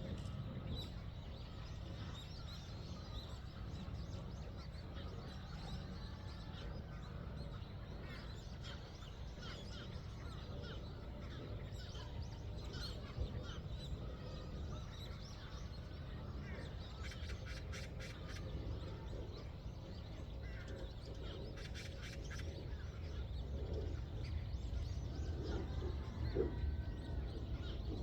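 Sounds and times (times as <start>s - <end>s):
birds chirping and calling: 0.0s - 28.0s
steady low rumble: 0.0s - 28.0s.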